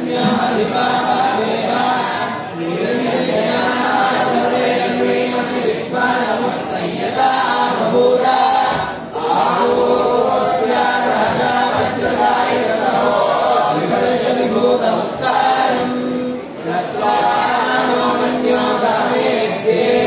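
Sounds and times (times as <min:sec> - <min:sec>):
group chanting: 0:00.0 - 0:20.0.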